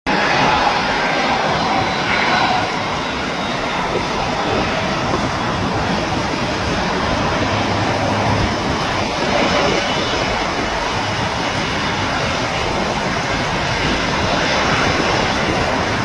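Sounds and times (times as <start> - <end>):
jet engines running: 0.1 - 16.0.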